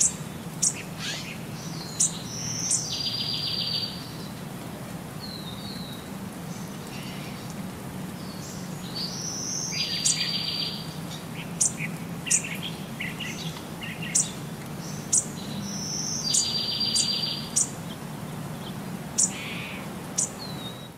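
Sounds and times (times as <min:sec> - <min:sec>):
small birds chirping: 0:00.0 - 0:04.4, 0:05.2 - 0:20.9.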